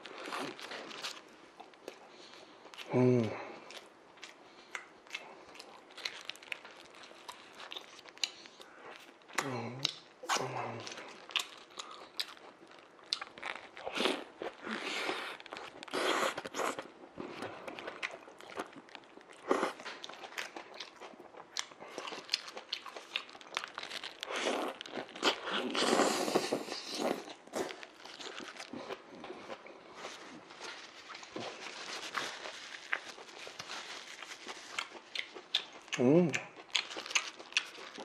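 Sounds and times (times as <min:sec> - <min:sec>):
sandwich crunching chewing: 0:03.6 - 0:10.0, 0:10.8 - 0:38.0.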